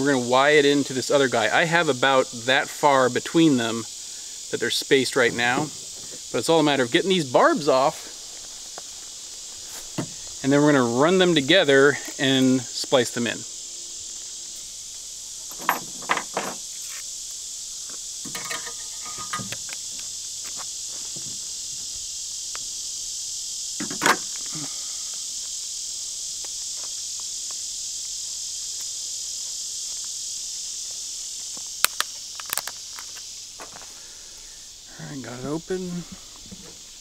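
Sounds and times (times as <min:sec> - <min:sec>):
insects chorus: 0:00.0 - 0:37.0.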